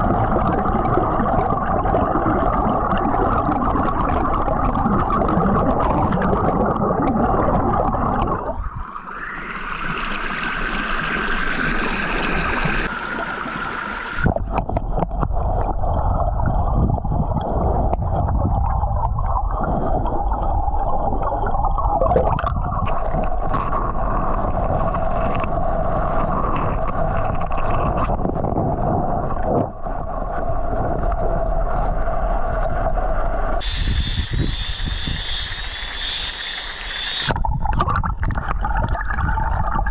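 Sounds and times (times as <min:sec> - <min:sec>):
muffled underwater rumble and gurgling: 0:00.0 - 0:39.9.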